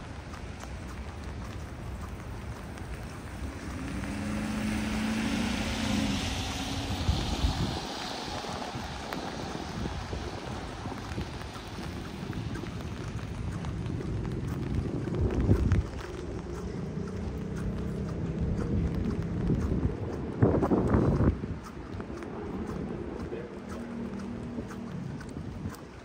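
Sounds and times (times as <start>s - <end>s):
street noise: 0.0s - 26.0s
vehicle passing on wet street: 0.0s - 26.0s.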